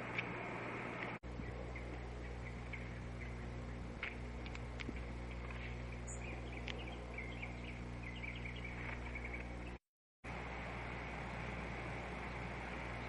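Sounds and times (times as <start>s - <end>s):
steady electrical hum: 0.0s - 13.0s
small birds chirping: 0.8s - 9.8s, 10.9s - 13.0s.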